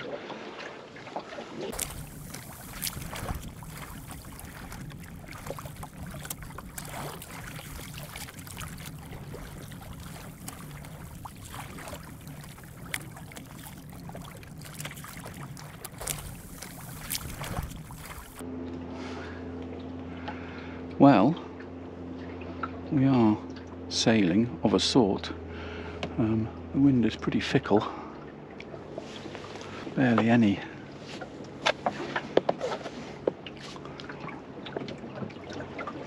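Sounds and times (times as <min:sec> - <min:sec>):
water lapping against hull: 0:00.0 - 0:18.4, 0:19.0 - 0:24.2, 0:25.3 - 0:36.0.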